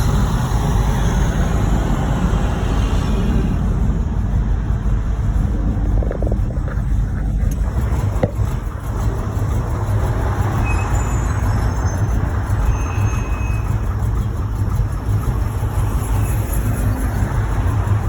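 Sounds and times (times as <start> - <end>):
car engine rumbling with knock: 0.0 - 18.0
road noise: 0.0 - 18.0.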